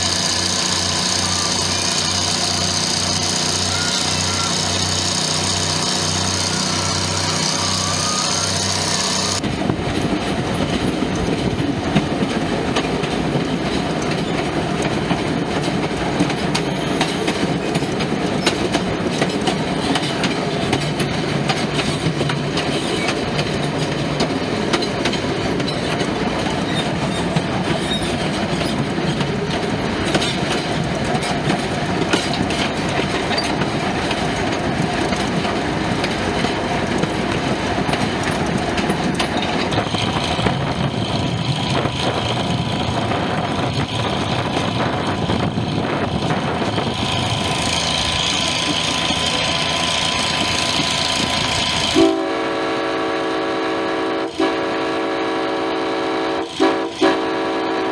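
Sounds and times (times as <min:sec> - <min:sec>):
train rolling along track: 0:00.0 - 0:57.9.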